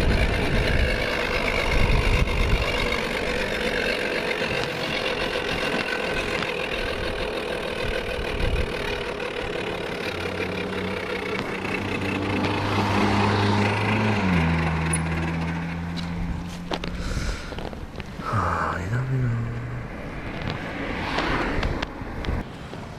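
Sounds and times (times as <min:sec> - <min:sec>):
motorcycle engine running: 0:00.0 - 0:22.4.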